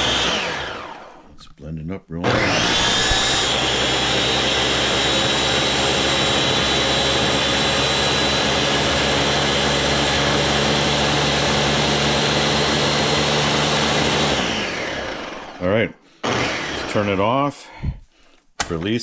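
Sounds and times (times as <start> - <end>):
blender running: 0.0 - 1.3, 2.2 - 17.4.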